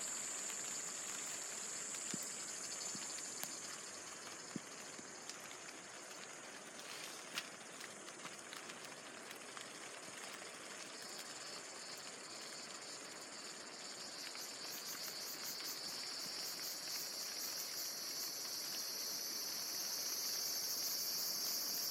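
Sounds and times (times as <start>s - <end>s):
insects buzzing: 0.0s - 9.6s, 10.2s - 21.9s.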